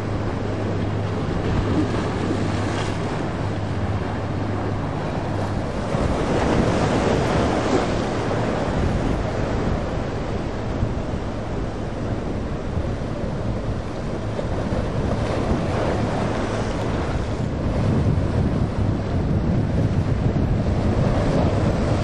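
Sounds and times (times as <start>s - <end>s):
waves and rushing water: 0.0s - 22.0s
wind buffeting microphone: 0.0s - 22.0s.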